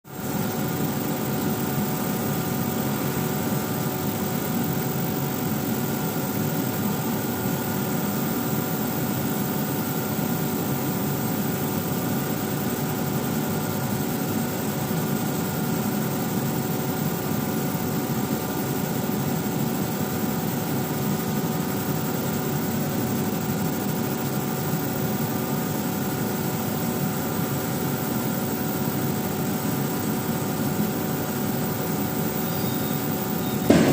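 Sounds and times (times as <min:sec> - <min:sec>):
laser marking machine hum: 0:00.1 - 0:33.9.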